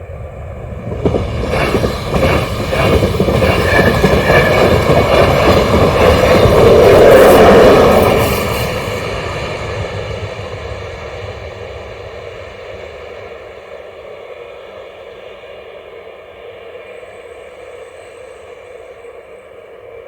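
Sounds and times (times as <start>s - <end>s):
electric train rolling away: 0.0s - 19.2s.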